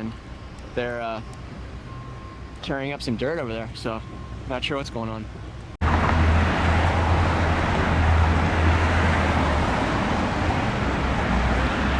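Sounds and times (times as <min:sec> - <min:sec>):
road traffic rumble: 0:00.0 - 0:11.9.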